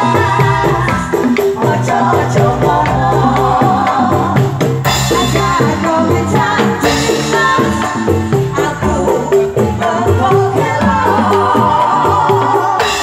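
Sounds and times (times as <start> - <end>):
drums: 0.0 - 13.0
woman singing: 0.0 - 13.0.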